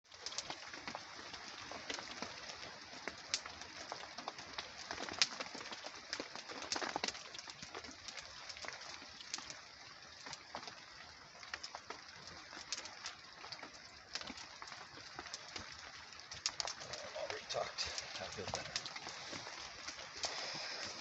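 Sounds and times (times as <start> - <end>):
rain hissing on a tarp: 0.0 - 21.0
wet wood fire popping and crackling: 0.0 - 21.0.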